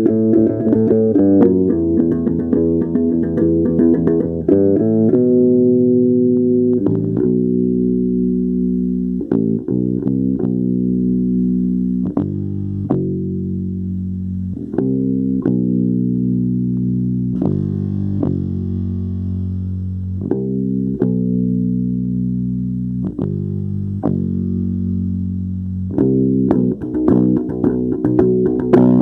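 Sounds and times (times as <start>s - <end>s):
slow low instrumental chords: 0.0s - 29.0s.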